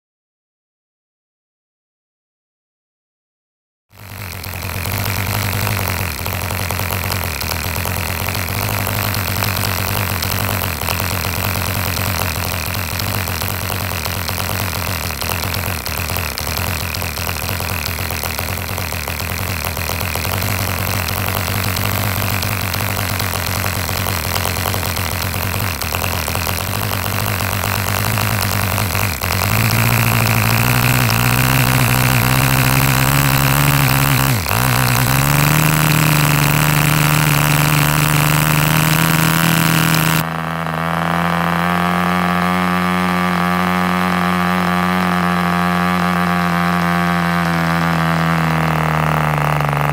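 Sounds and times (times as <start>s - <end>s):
small model engine running fast: 4.0s - 49.9s.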